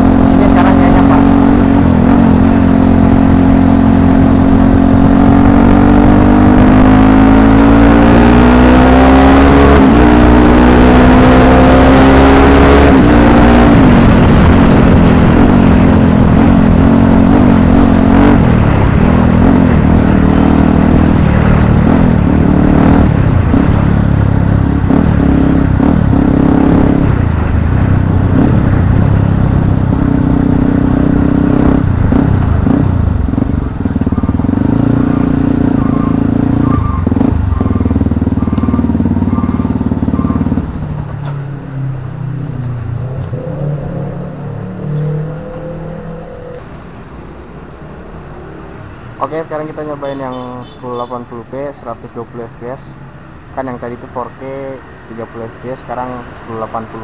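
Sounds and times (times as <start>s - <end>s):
motorcycle engine revving: 0.0s - 47.6s.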